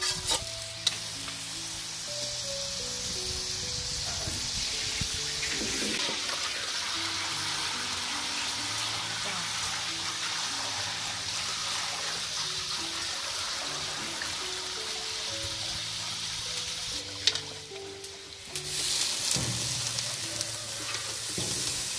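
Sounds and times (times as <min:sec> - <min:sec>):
water splashing and trickling: 0:04.1 - 0:21.9.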